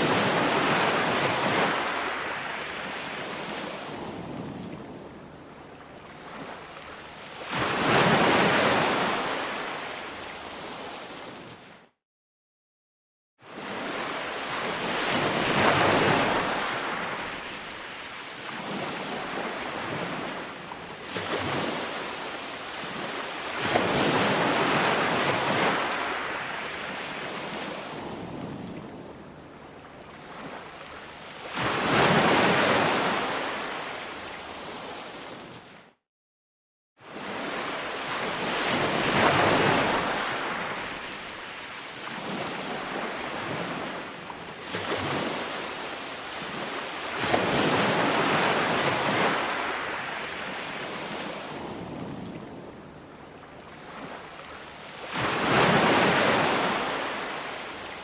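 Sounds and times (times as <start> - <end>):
ocean waves breaking on shore: 0.0 - 12.0, 13.4 - 36.0, 37.0 - 58.0.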